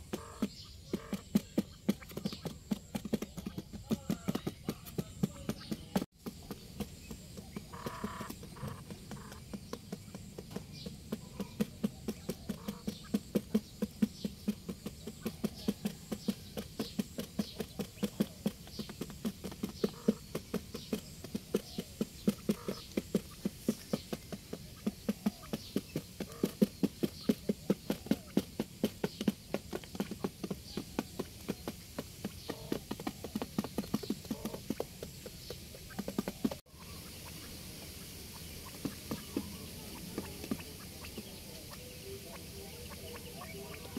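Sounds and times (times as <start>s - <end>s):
beaks tapping on cardboard: 0.0s - 37.2s, 38.4s - 43.9s.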